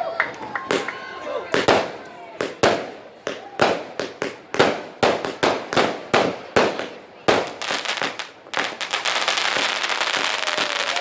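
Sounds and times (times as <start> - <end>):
fireworks bangs: 0.4 - 11.0
fireworks crackling: 1.5 - 11.0.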